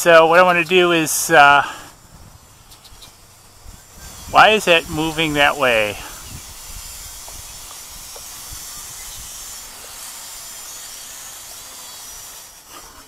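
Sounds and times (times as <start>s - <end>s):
wind hiss on microphone: 1.1s - 13.0s.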